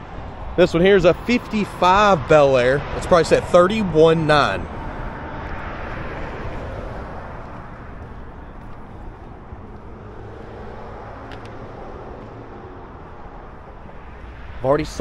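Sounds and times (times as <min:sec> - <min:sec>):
passing vehicle: 0:00.0 - 0:15.0.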